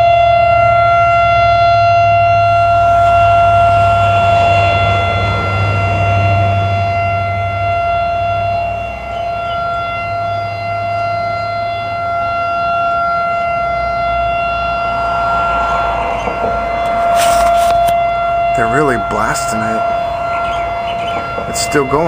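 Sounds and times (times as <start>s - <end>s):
steady warning siren: 0.0s - 22.0s.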